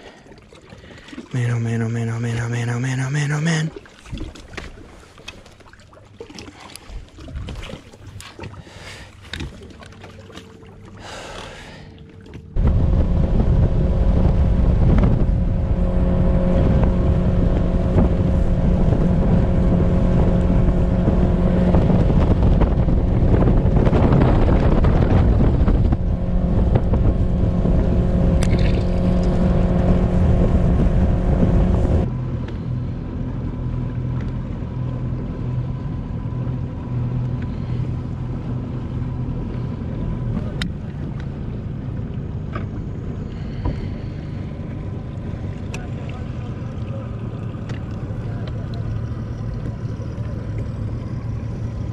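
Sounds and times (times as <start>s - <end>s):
outboard motor running: 0.0s - 51.9s.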